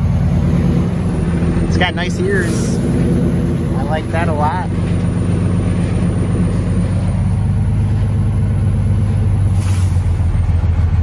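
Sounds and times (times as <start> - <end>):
truck engine drone inside cab: 0.0 - 11.0.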